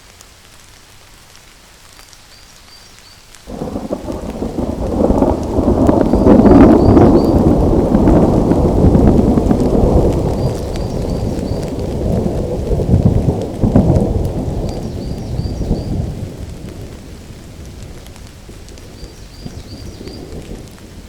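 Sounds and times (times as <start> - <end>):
steady rain: 0.0 - 21.0
rolling thunder: 3.5 - 21.0.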